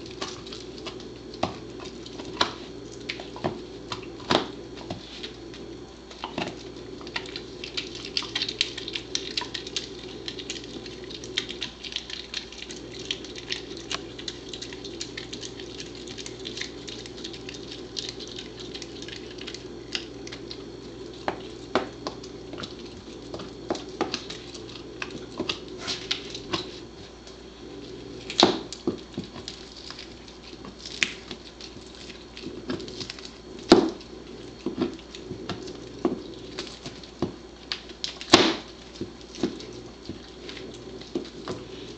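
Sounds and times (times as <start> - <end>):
dog chewing bone: 0.0 - 41.9.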